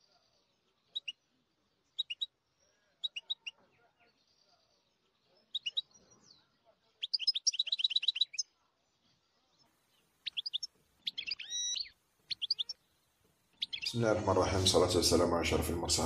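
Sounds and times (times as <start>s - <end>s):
songbird chirping and trilling: 0.0s - 15.8s.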